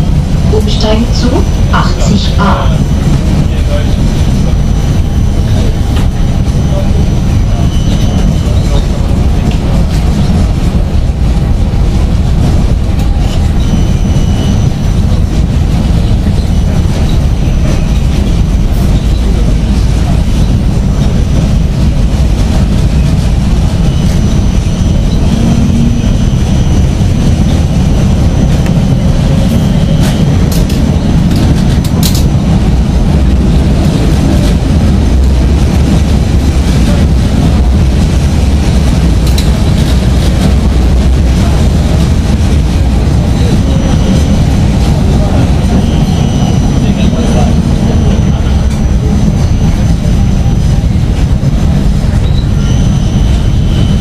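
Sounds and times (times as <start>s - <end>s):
tram wheels rumbling: 0.0s - 54.0s.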